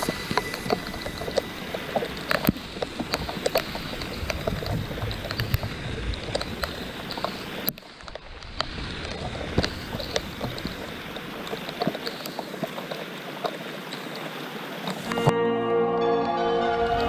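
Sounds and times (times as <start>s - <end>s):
steady rain: 0.0s - 15.2s.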